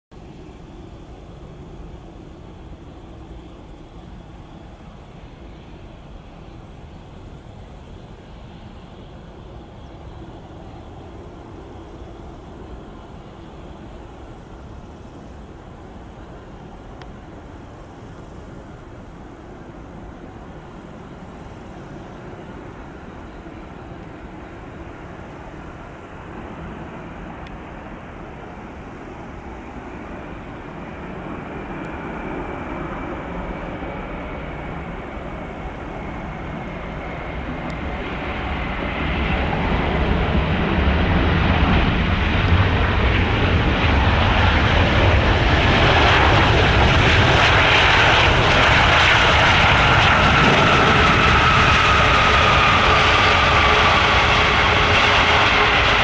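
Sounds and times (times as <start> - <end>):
high jet whine: 0.1 - 56.0
jet engine rush: 0.1 - 56.0.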